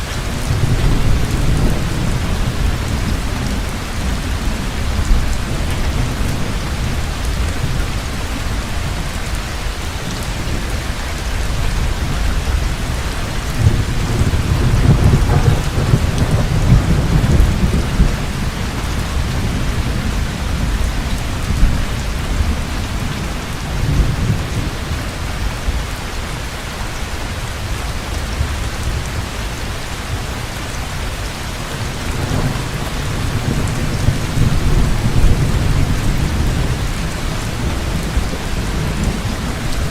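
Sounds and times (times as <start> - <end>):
thunder rumbling: 0.0 - 26.6, 27.6 - 39.9
heavy rain: 0.0 - 39.9.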